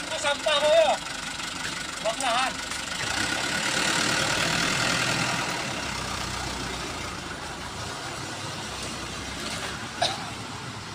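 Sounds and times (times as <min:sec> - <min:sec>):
truck engine running: 0:00.0 - 0:10.9.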